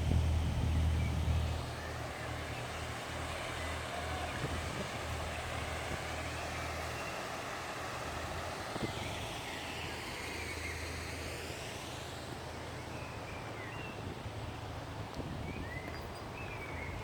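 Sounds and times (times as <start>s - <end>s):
diesel engine humming: 0.0s - 13.7s
faint outdoor background noise: 0.0s - 17.0s.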